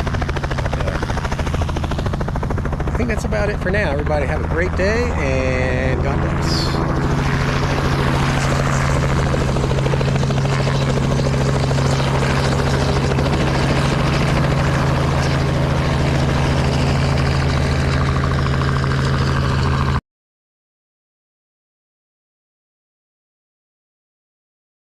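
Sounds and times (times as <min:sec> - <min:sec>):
helicopter drone: 0:00.0 - 0:20.0.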